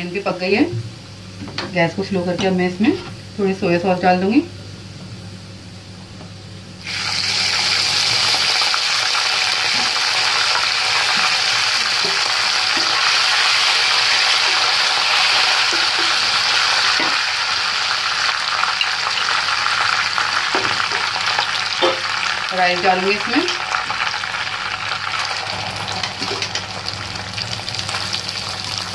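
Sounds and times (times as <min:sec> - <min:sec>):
sizzling in a frying pan: 0:00.0 - 0:28.9.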